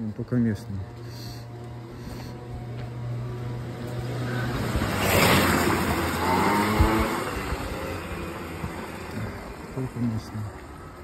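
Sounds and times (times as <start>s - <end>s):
motor vehicle passing by: 0.8s - 11.0s.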